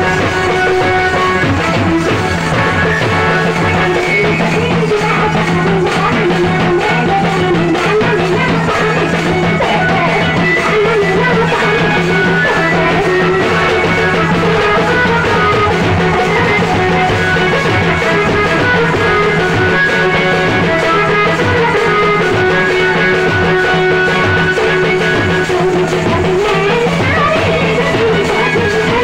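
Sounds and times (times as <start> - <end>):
barrel drums beaten with sticks: 0.0 - 29.0
continuous melody line: 0.0 - 29.0.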